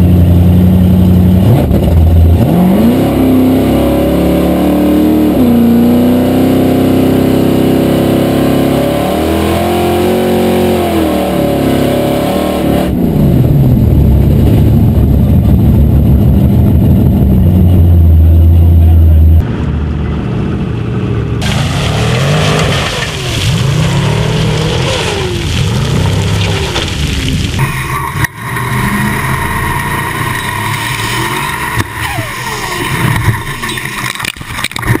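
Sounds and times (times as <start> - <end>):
racing engine revving: 0.0 - 27.0, 27.6 - 35.0.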